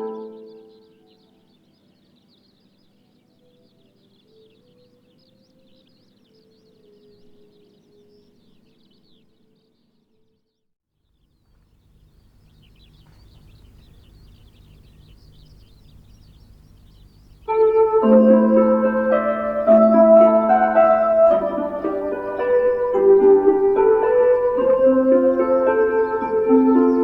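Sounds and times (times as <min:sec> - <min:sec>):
outdoor background noise: 0:00.0 - 0:27.0
small birds chirping: 0:00.0 - 0:27.0.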